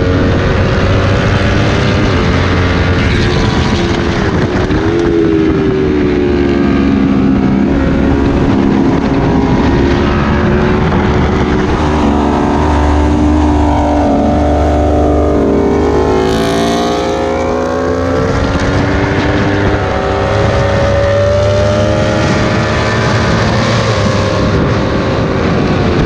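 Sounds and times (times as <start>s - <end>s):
motorcycle engines: 0.0s - 26.0s
wind rush on microphone: 0.0s - 26.0s.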